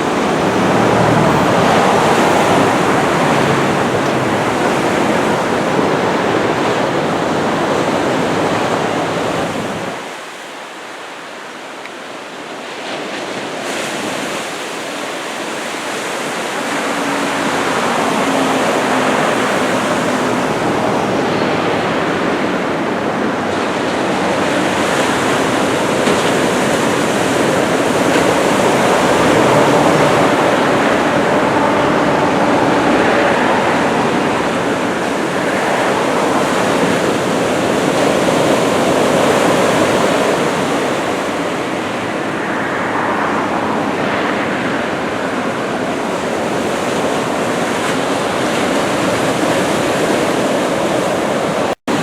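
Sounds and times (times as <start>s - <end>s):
wind rumble on microphone: 0.0s - 10.5s, 12.4s - 52.0s
ocean waves breaking: 0.0s - 52.0s.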